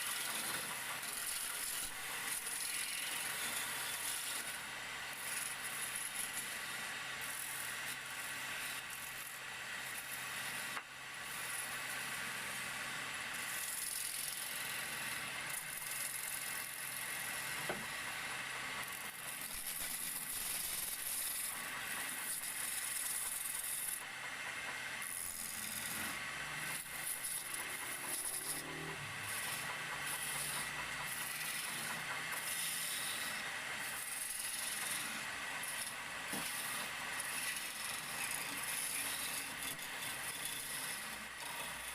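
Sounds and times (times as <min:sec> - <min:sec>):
chisel shaving spinning wood: 0:00.0 - 0:41.9
lathe whine: 0:00.0 - 0:41.9.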